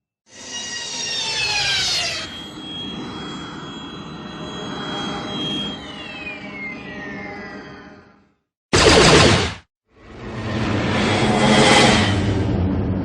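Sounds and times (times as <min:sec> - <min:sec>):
sci-fi spaceship engine whine: 0:00.3 - 0:09.0, 0:10.0 - 0:13.0.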